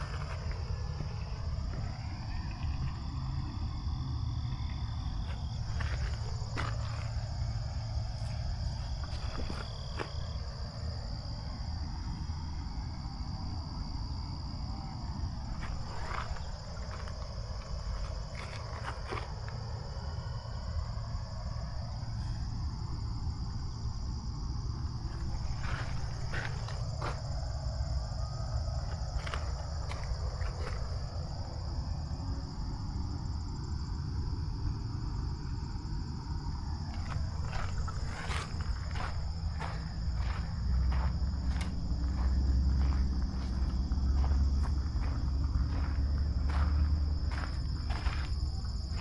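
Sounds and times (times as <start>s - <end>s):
crickets chirping: 0.0s - 49.0s
low rumble: 0.0s - 49.0s.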